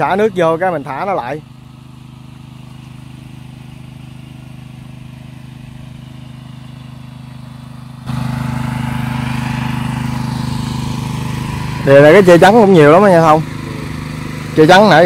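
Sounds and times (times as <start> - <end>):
water pump engine humming: 0.0 - 15.0.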